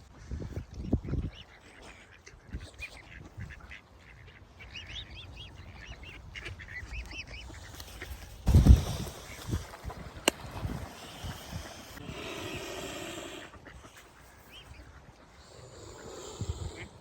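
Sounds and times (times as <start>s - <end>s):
ducks calling: 0.3s - 17.0s.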